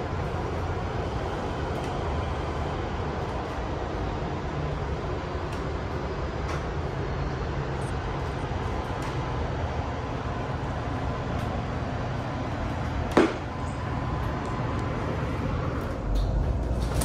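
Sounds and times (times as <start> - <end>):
train ventilation hum: 0.0 - 17.0.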